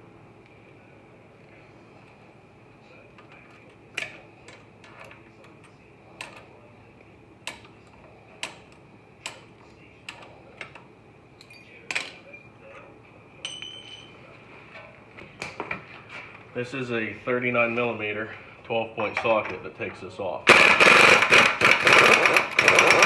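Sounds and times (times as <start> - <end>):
faint high hum: 0.0 - 20.5.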